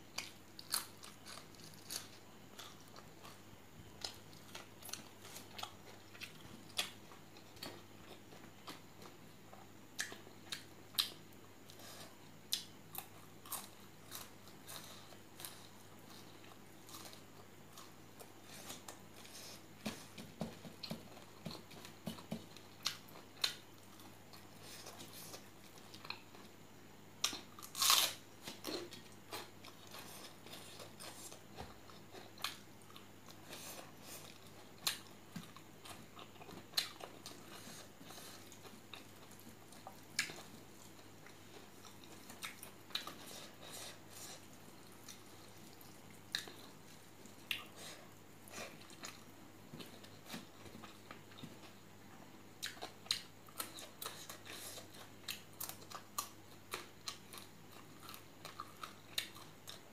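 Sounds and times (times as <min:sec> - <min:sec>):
person chewing and crunching food: 0:00.1 - 0:59.9.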